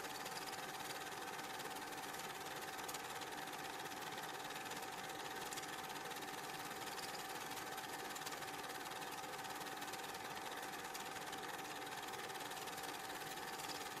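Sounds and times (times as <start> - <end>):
film projector whirring: 0.0 - 14.0.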